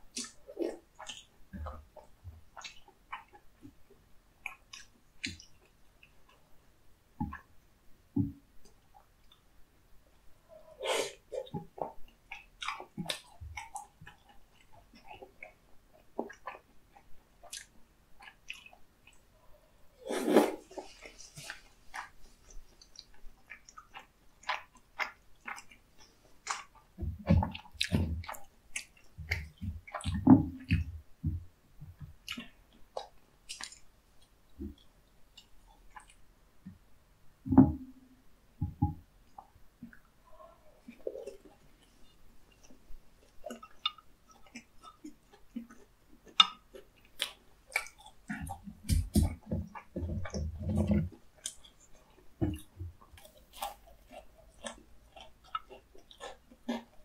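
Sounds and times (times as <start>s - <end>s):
chewing and wet mouth sounds: 0.0s - 6.5s, 7.2s - 9.4s, 10.1s - 36.8s, 38.6s - 57.0s.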